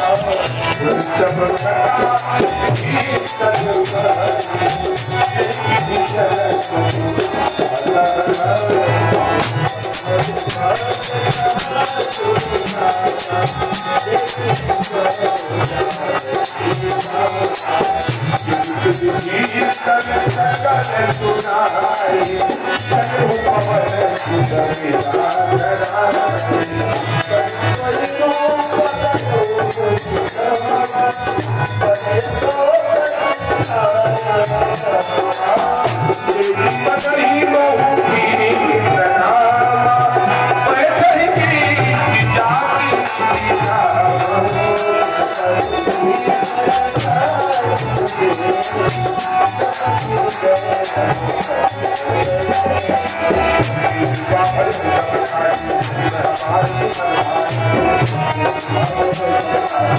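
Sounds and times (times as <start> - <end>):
dholak drum beat: 0.0 - 59.9
harmonium melody: 0.0 - 59.9
jingling hand percussion: 0.0 - 59.9.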